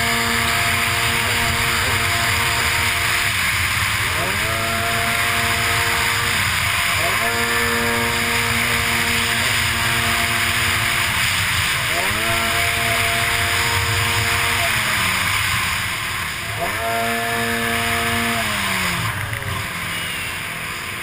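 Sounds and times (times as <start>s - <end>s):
jetski engine running hard: 0.0s - 21.0s.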